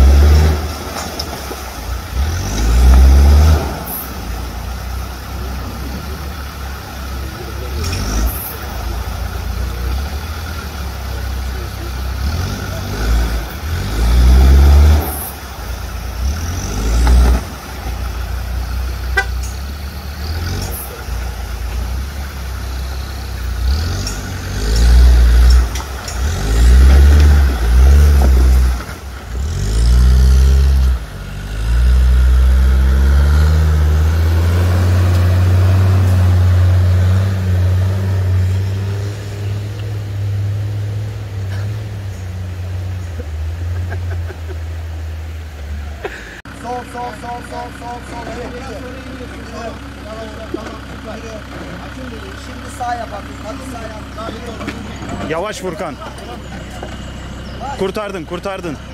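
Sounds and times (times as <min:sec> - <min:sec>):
off-road engine revving: 0:00.0 - 0:58.9.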